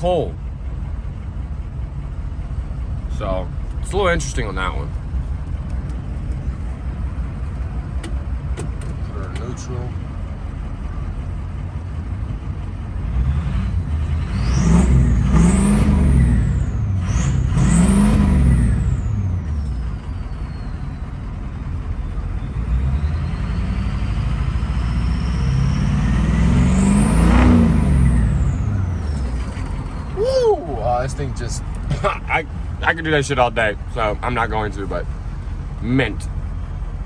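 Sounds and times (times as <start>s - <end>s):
diesel engine revving: 0.0s - 37.0s.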